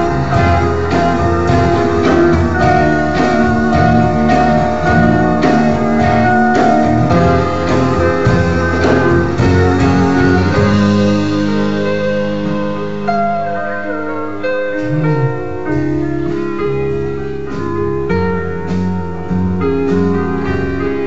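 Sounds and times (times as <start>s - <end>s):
instrumental rock music with guitar: 0.0s - 21.0s.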